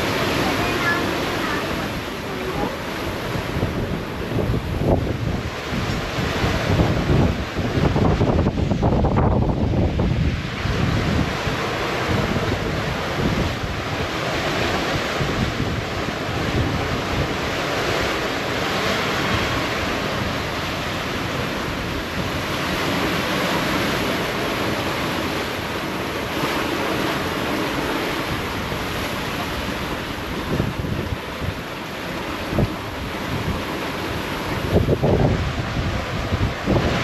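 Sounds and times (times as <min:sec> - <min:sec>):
strong wind: 0:00.0 - 0:37.0
waves rushing: 0:00.0 - 0:37.0
wind buffeting microphone: 0:00.0 - 0:37.0.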